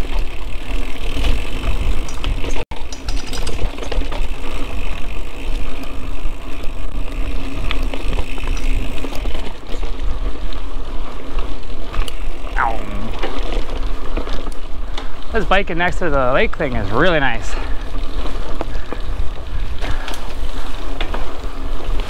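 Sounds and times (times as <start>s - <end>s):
bike tyres rumbling on dirt: 0.0s - 22.0s.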